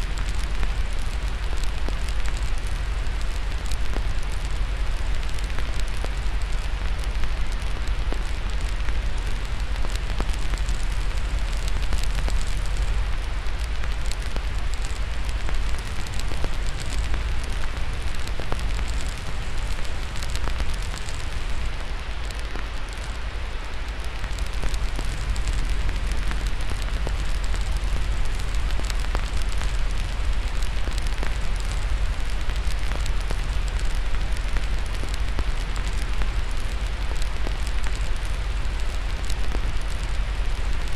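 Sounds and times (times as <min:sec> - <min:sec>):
fire crackling with pops: 0:00.0 - 0:40.9
steady hiss: 0:00.0 - 0:40.9.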